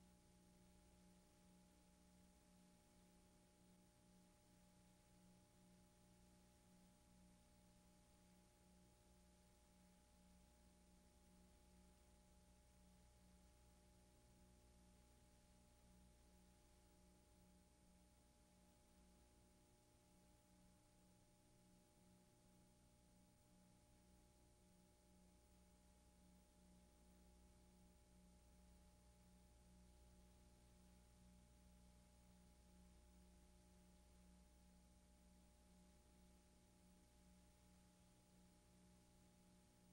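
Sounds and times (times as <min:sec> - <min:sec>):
faint electrical hum and hiss: 0:00.0 - 0:39.9.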